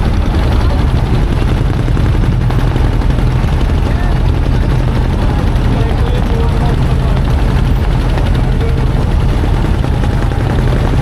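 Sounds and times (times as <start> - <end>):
crowd voices: 0.0 - 11.0
motorboat engine droning: 0.0 - 11.0.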